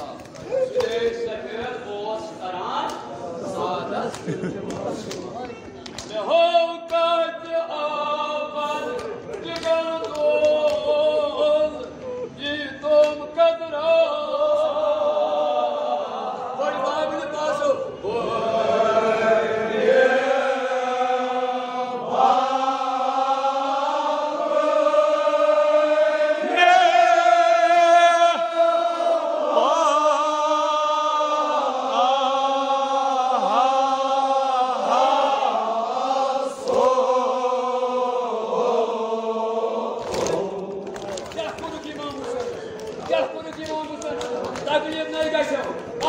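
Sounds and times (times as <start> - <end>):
men chanting in unison: 0.0 - 4.2, 6.1 - 45.8.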